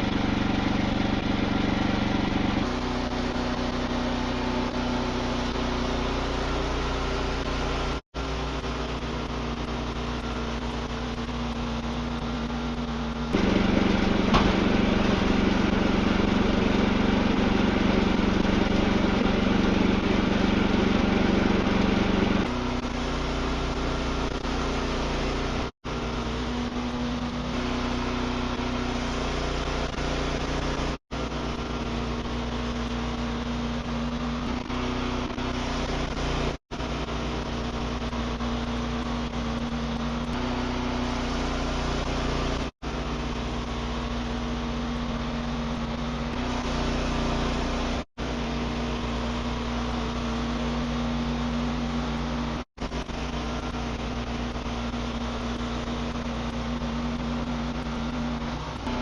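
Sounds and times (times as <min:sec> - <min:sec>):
portable sawmill running: 0:00.0 - 0:59.0.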